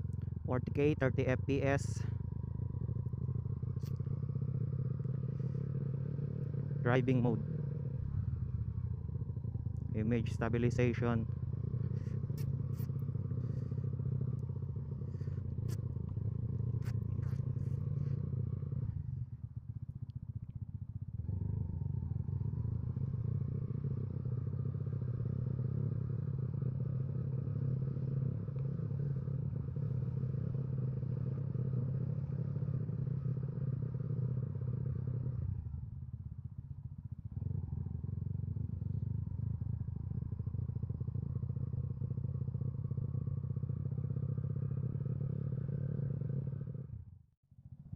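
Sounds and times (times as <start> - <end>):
road and wind noise: 0.0 - 47.1
motorcycle engine running: 0.0 - 47.9.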